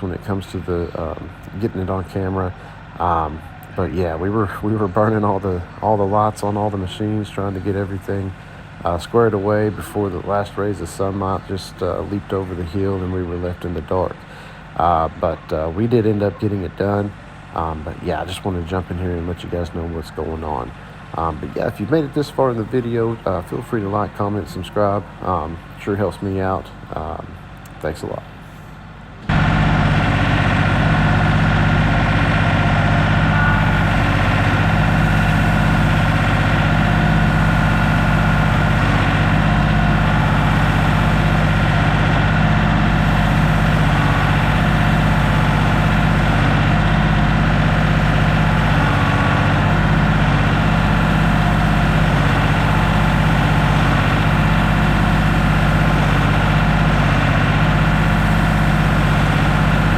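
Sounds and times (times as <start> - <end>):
large engine idling: 0.0 - 59.9.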